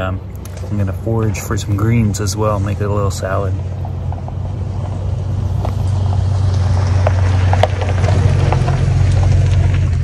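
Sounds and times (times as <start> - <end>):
tyres crunching over gravel: 0.0 - 10.0
vehicle engine running: 0.0 - 10.0.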